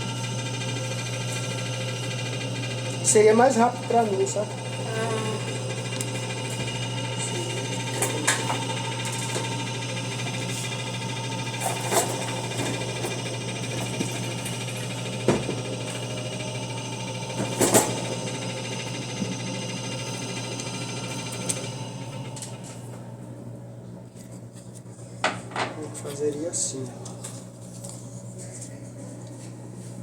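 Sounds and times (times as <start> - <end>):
machine motor hum: 0.0 - 28.0.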